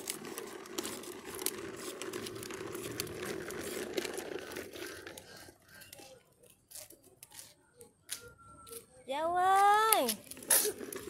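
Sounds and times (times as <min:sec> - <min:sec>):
plastic wheels rolling on asphalt: 0:00.0 - 0:11.0.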